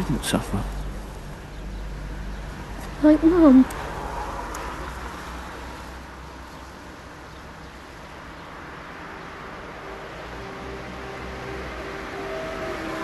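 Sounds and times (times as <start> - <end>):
steady low rumble with hiss: 0.0 - 13.0.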